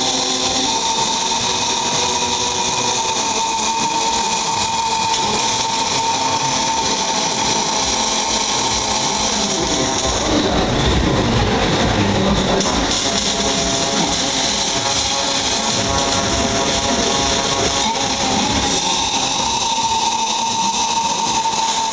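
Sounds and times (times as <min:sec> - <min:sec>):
welding arc buzzing hiss: 0:00.0 - 0:21.9.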